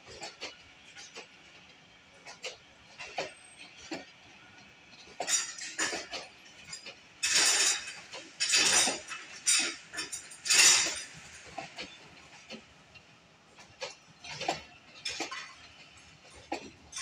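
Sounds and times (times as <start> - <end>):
train wheels clacking over rail joints: 0.0 - 17.0.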